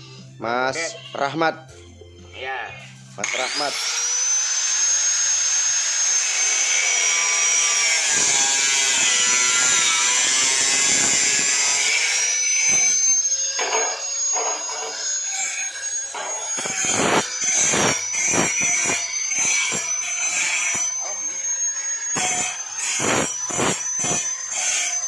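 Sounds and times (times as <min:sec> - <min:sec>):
power tool whining: 0:03.2 - 0:25.0.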